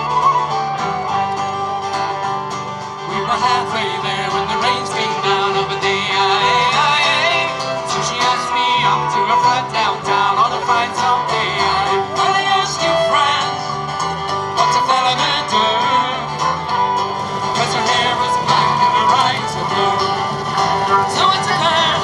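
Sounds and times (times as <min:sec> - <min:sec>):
folk band playing: 0:00.0 - 0:22.0.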